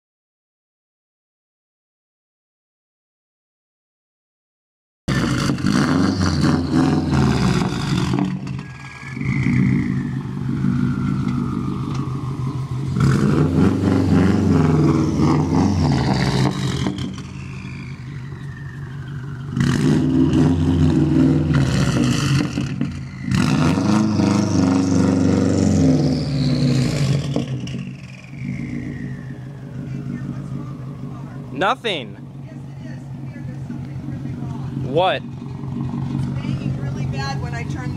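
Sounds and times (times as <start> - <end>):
car engine revving loudly: 5.1 - 37.9.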